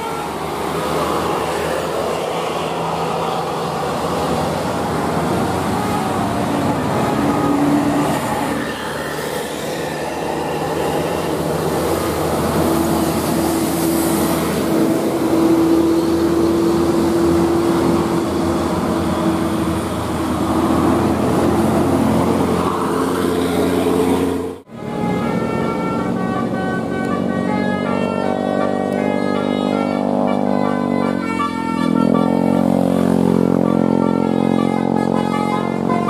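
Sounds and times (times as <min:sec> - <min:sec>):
bus passing loudly: 0:00.0 - 0:36.0.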